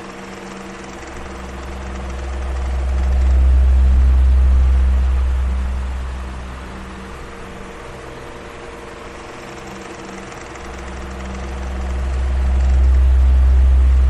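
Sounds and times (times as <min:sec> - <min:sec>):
electric fan whooshing: 0:00.0 - 0:14.0
faint motor hum: 0:00.0 - 0:14.0
deep rumble: 0:01.2 - 0:09.7, 0:10.6 - 0:14.0.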